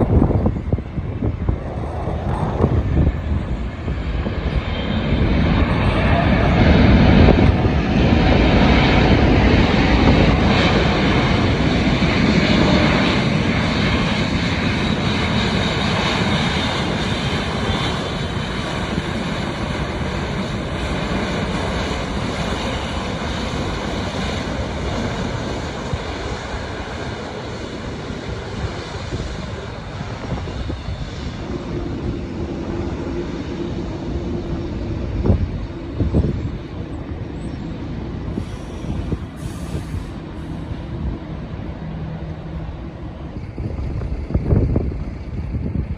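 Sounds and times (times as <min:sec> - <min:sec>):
jet airliner passing: 0:00.0 - 0:45.9.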